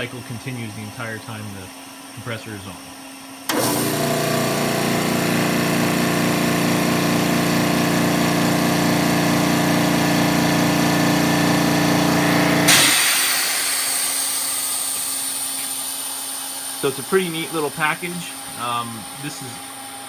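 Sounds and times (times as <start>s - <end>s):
cooling fan running: 0.0s - 20.0s
air compressor running: 2.3s - 20.0s.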